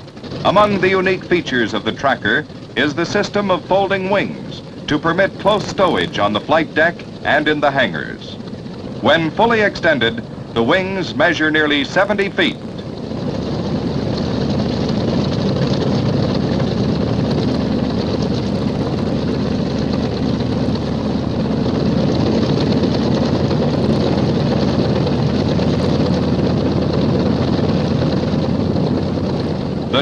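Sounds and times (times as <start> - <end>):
aircraft piston engines running: 0.0 - 30.0.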